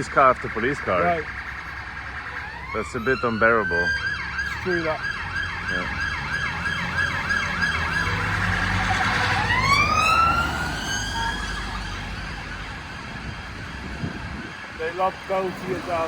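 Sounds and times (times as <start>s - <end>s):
low rumble of traffic: 0.0s - 16.0s
police siren yelp and wail: 0.0s - 16.0s.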